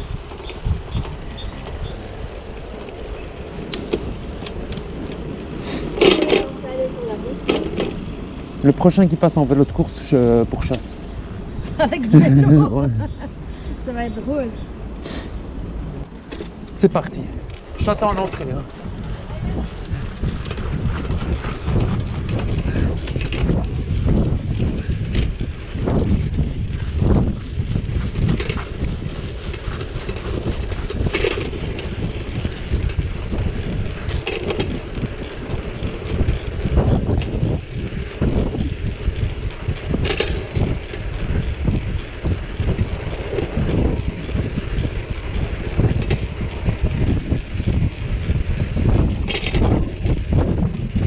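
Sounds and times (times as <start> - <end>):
bicycle tyres rolling on asphalt: 0.0 - 51.0
wind buffeting microphone: 0.0 - 51.0.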